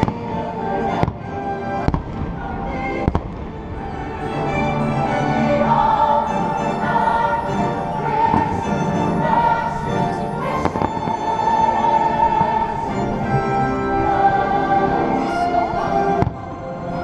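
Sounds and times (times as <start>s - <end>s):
choral and orchestral music: 0.0s - 17.0s.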